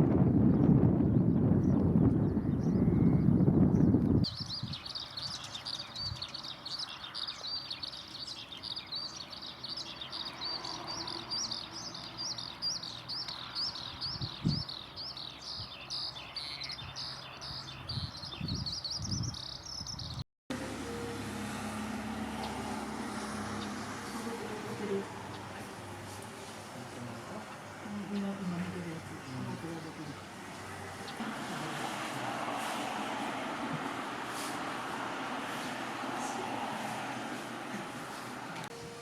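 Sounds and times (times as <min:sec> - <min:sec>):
songbird singing: 0:00.1 - 0:39.0.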